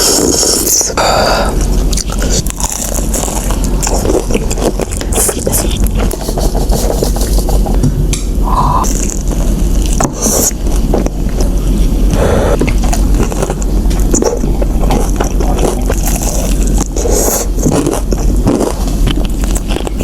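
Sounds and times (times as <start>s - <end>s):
crunching and chewing food: 0.0s - 20.0s
steady low hum: 0.0s - 20.0s.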